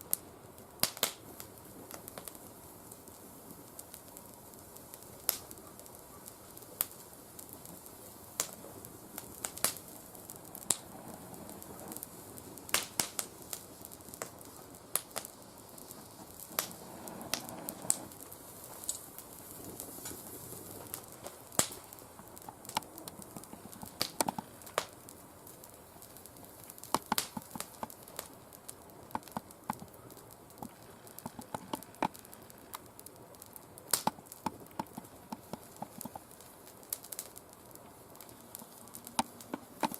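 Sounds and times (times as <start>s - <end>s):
low hiss of fire: 0.0s - 39.9s
twigs crackling in a fire: 0.0s - 39.9s.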